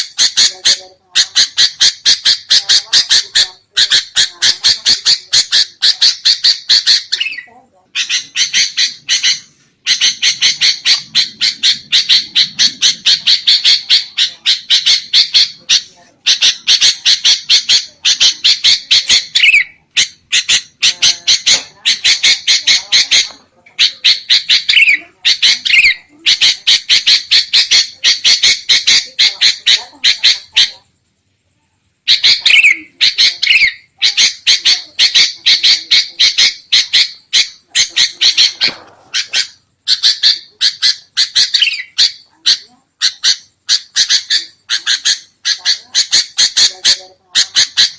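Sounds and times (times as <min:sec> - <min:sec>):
bulbuls chattering calls: 0:00.0 - 0:30.9, 0:32.1 - 0:47.9.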